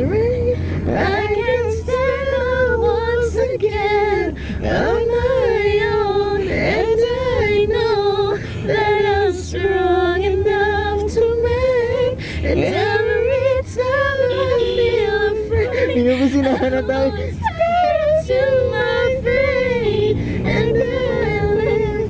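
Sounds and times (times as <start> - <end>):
low steady hum: 0.0 - 22.0
woman singing unaccompanied: 0.0 - 22.0.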